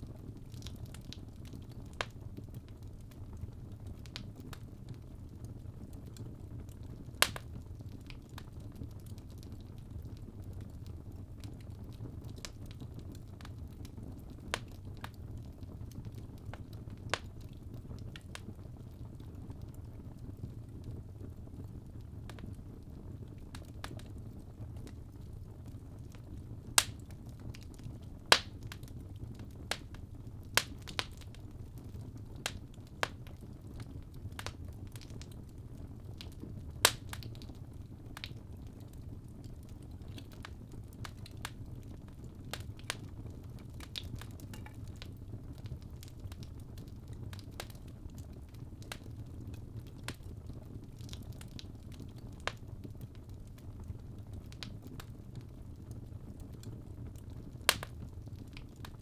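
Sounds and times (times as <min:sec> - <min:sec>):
fire crackling and popping: 0:00.0 - 0:59.0
fire rumbling in fireplace: 0:00.0 - 0:59.0.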